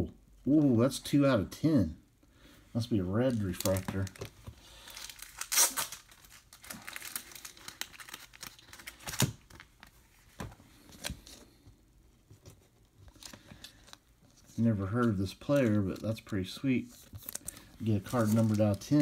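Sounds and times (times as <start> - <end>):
trading cards and plastic rustling: 2.7 - 19.0.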